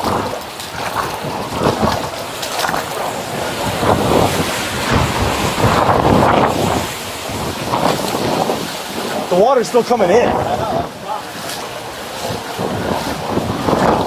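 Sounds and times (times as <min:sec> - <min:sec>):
floodwater rushing and sloshing: 0:00.0 - 0:14.0
wind buffeting the microphone: 0:00.0 - 0:14.0.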